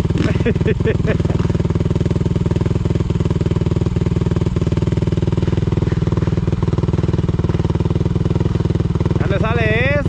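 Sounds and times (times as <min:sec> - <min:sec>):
vehicle engine running steadily: 0:00.0 - 0:10.0.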